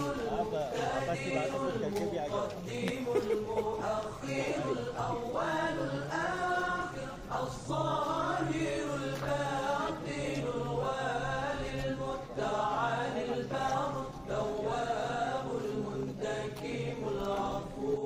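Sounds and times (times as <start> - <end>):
person chanting recitation: 0.0 - 18.0.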